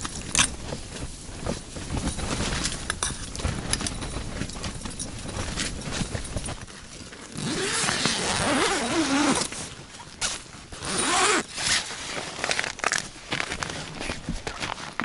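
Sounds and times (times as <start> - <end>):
tent fabric rustling: 0.0 - 15.0
tent zipper being pulled open: 2.0 - 15.0.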